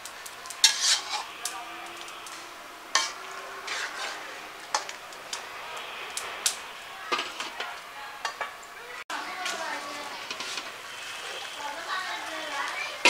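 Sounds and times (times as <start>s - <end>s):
metal spatula scraping wok: 0.0s - 8.5s, 9.3s - 13.0s
simmering curry hiss: 0.0s - 13.0s.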